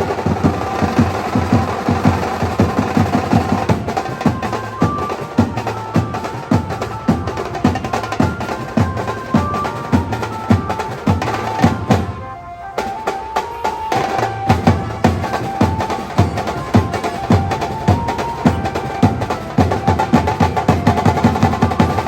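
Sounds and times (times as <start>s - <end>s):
driving drum beat: 0.0s - 12.2s, 12.8s - 22.0s
banjo melody: 0.0s - 22.0s.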